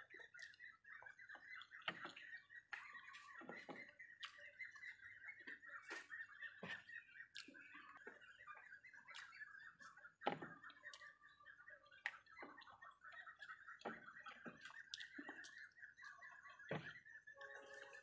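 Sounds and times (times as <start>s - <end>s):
soft chewing: 0.0s - 18.0s.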